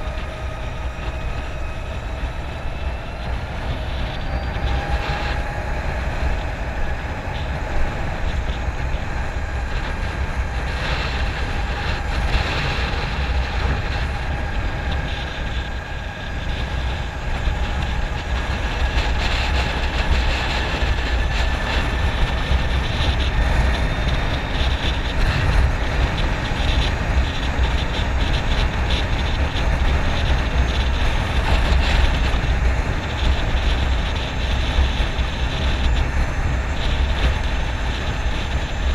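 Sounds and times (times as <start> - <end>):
electric motor whine: 0.0 - 38.9
wind rushing over microphone: 0.0 - 38.9.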